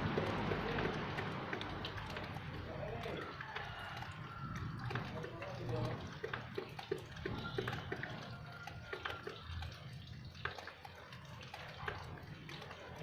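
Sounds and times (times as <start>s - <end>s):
water dripping: 0.0s - 13.0s.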